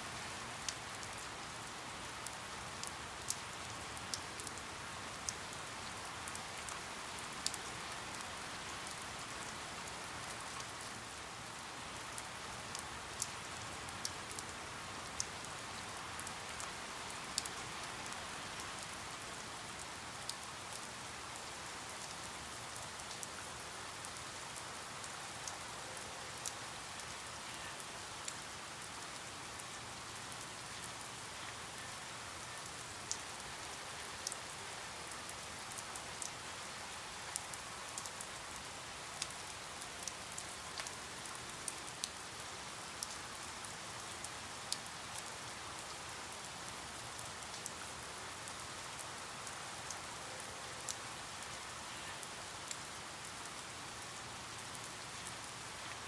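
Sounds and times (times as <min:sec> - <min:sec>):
raindrops dripping on a surface: 0:00.0 - 0:56.0
steady rain hiss: 0:00.0 - 0:56.0.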